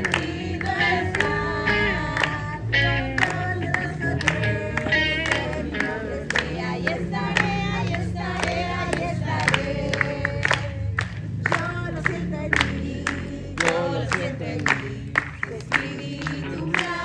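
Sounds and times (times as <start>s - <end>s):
group singing worship song: 0.0s - 17.0s.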